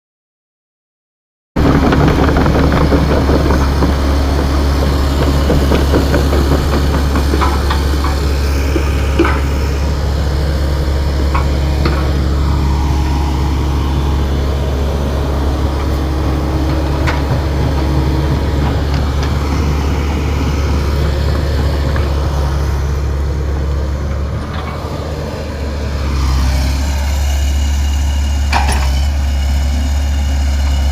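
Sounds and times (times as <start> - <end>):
engine idling: 1.6 - 30.9.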